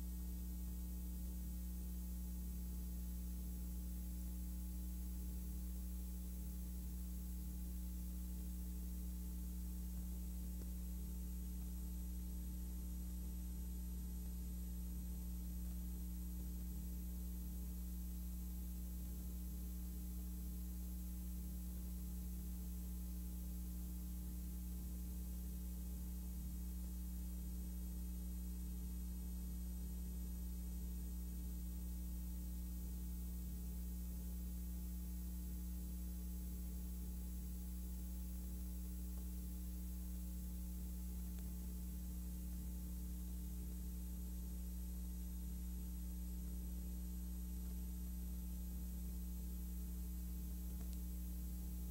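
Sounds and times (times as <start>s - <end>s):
low electrical hum: 0.0s - 51.9s.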